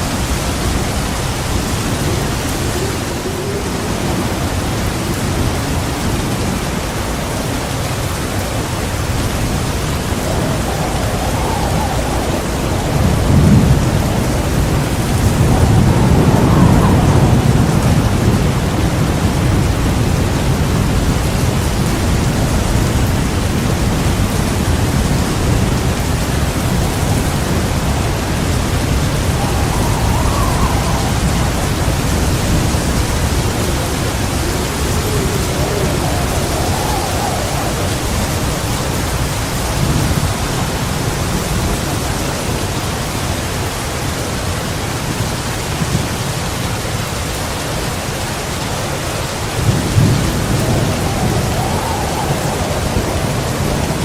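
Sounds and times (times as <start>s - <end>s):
rolling thunder: 0.0s - 43.6s, 49.0s - 54.0s
heavy rain pouring: 0.0s - 54.0s.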